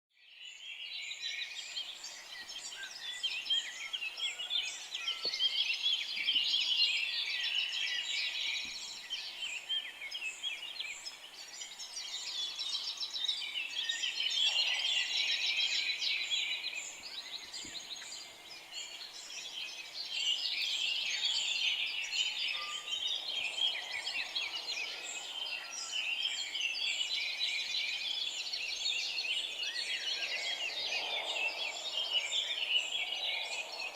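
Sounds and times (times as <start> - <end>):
songbirds chirping and trilling: 0.2 - 33.9.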